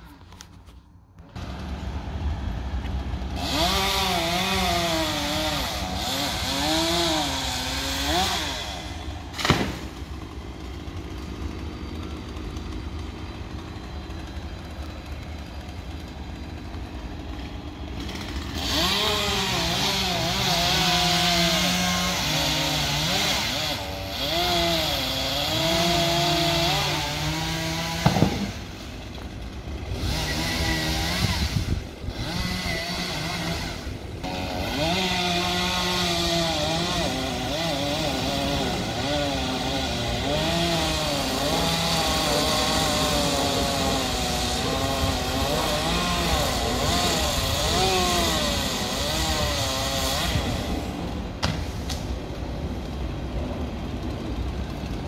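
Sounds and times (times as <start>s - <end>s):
chainsaw cutting wood: 0.1s - 52.2s.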